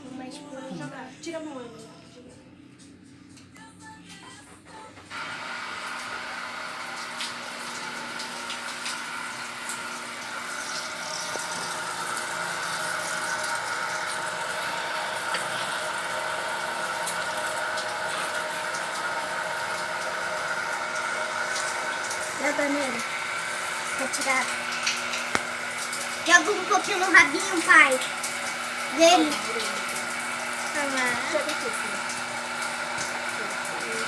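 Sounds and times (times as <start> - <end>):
shower sprayer water into sink: 5.1 - 34.0.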